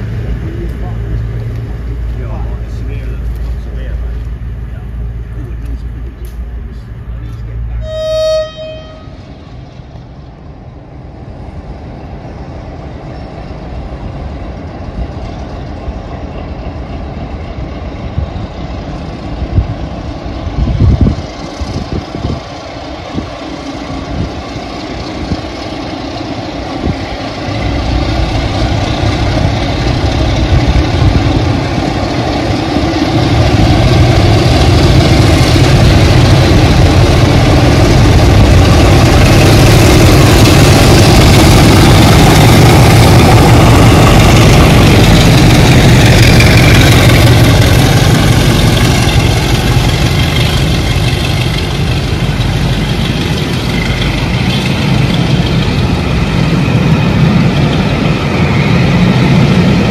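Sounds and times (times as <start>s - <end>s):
diesel locomotive engines running: 0.0s - 59.9s.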